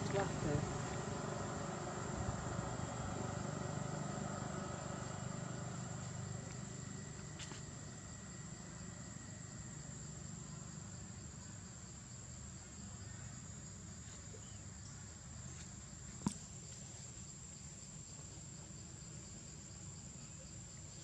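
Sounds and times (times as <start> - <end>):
vehicle engine rumble: 0.0 - 20.3.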